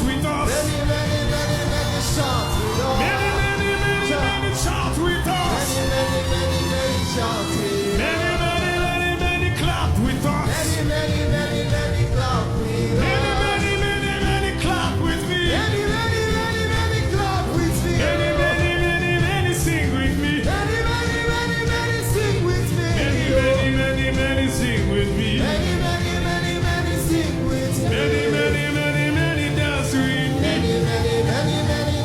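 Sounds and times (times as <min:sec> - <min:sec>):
backing band playing: 0:00.0 - 0:32.0
wavering chant singing: 0:00.0 - 0:32.0.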